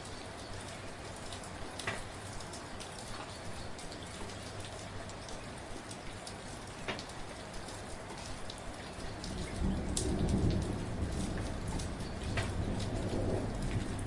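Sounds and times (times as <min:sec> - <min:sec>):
rain drops ticking on a surface: 0:00.0 - 0:14.0.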